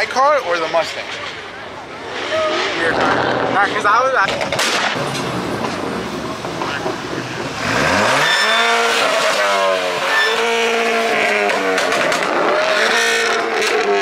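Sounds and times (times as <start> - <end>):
car engine revving: 1.9 - 14.0.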